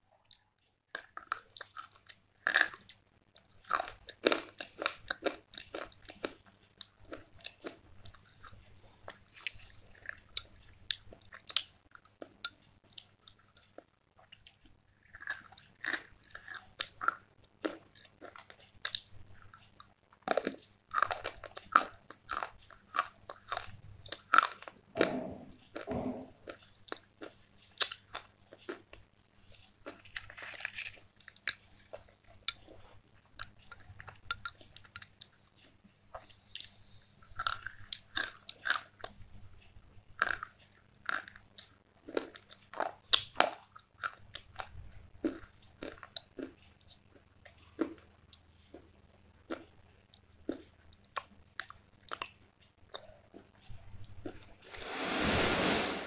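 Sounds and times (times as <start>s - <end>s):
crunching and chewing: 0.2s - 54.6s.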